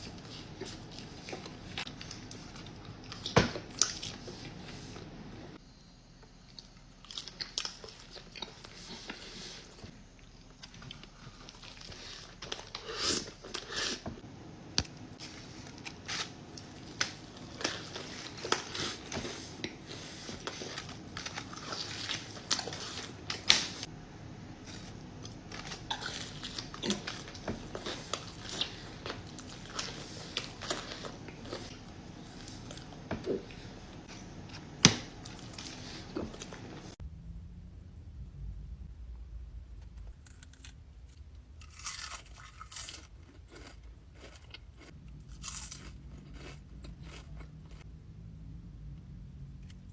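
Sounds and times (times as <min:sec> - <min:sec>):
crunching and chewing food: 0:00.0 - 0:04.8, 0:06.4 - 0:14.0, 0:15.2 - 0:23.9, 0:24.6 - 0:37.0, 0:40.0 - 0:48.0.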